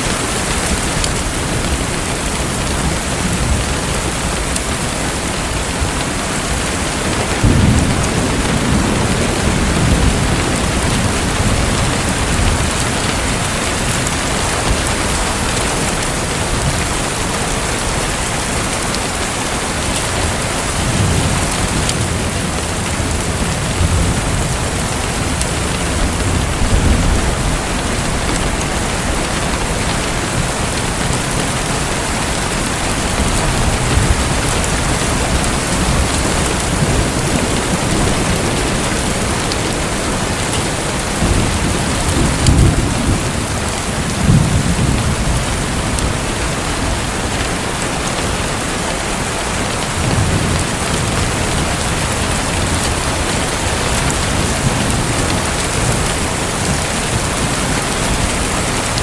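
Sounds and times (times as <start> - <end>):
thunder rumbling: 0.0 - 59.0.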